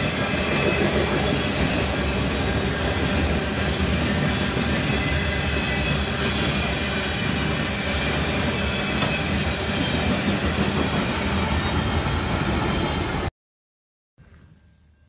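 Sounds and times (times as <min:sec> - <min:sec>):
train wheels on rail: 0:00.0 - 0:13.3.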